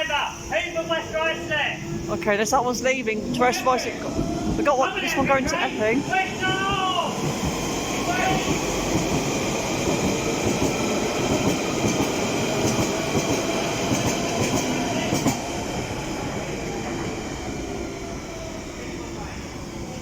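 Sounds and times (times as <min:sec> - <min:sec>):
train motors whining: 0:00.0 - 0:20.0
train wheel rumble: 0:00.0 - 0:20.0.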